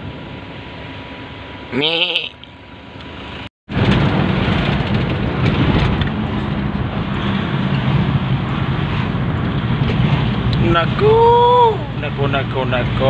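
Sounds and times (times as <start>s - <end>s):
engine and road drone: 0.0s - 13.0s.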